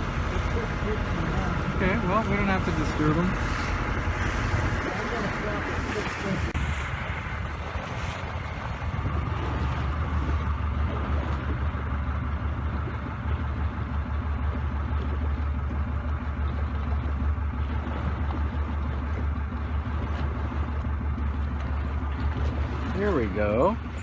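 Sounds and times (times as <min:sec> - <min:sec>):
boat engine humming: 0:00.0 - 0:24.0
water washing: 0:00.0 - 0:24.0
wind: 0:00.0 - 0:24.0.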